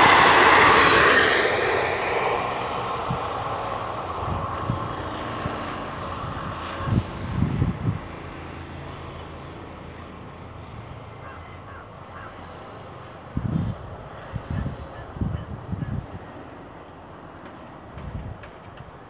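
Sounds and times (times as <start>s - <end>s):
passenger train rumbling: 0.0s - 19.0s.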